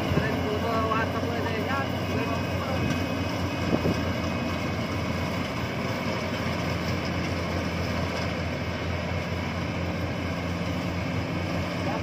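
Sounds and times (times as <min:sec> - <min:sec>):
combine harvester engine and threshing: 0:00.0 - 0:12.0.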